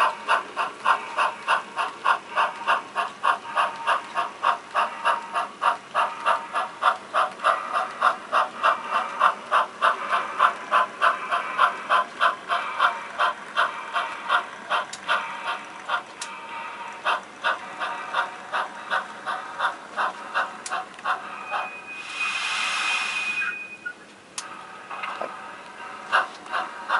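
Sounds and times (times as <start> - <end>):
model steam locomotive chuffing: 0.0 - 26.9.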